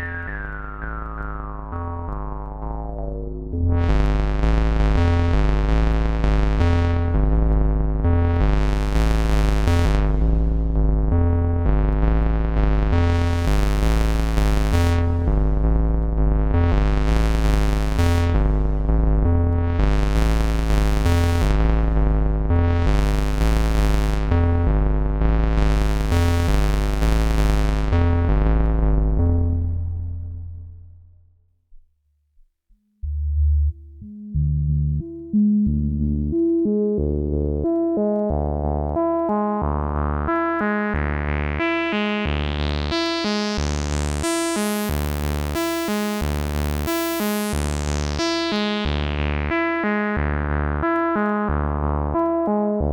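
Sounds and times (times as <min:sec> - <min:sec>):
synthesizer drone: 0:00.0 - 0:25.0, 0:33.0 - 0:52.9
synthesizer bass pattern: 0:00.0 - 0:30.6, 0:33.0 - 0:52.9.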